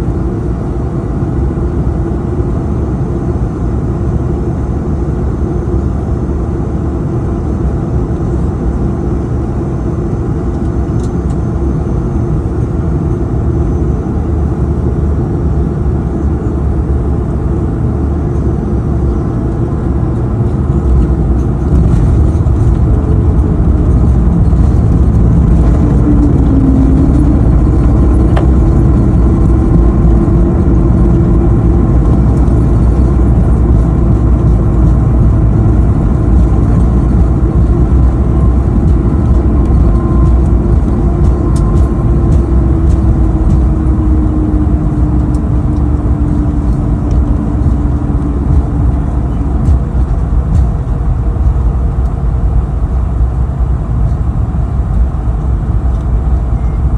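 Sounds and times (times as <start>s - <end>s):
falling engine whine: 0.0s - 56.9s
jet engine cabin rumble: 0.0s - 56.9s.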